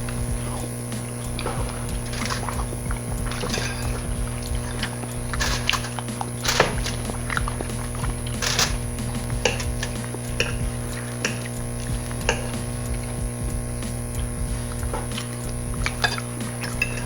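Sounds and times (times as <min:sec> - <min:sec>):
background hum: 0:00.0 - 0:17.0
wet chewing: 0:00.0 - 0:17.0
cutlery scraping on plates: 0:01.0 - 0:13.1, 0:14.1 - 0:17.0.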